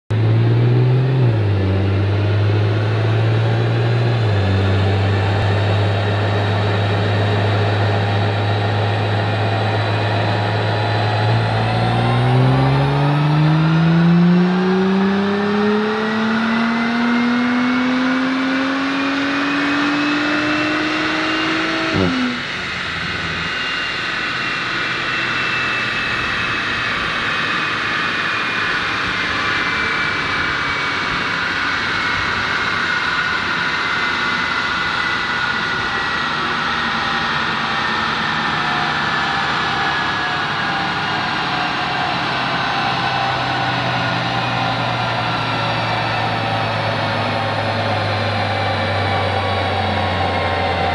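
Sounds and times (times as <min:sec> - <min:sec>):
car engine revving on a dyno: 0:00.1 - 0:50.9
high whine falling in pitch: 0:00.1 - 0:50.9.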